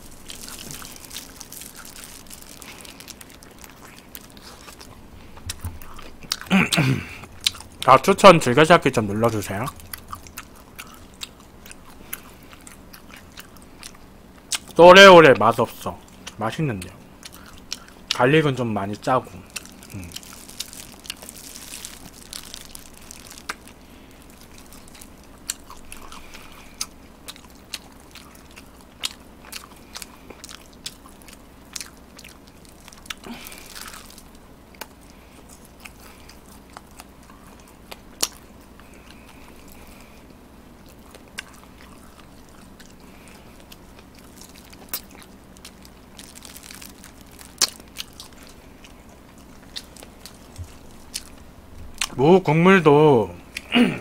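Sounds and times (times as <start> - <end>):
chewing crispy fried chicken: 0.0 - 52.2.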